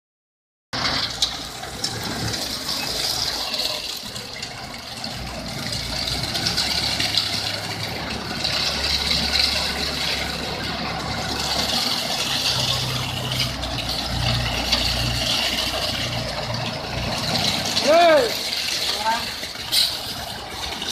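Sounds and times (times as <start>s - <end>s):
truck engine running: 0.7s - 20.9s
concrete pouring from drum: 0.8s - 20.9s.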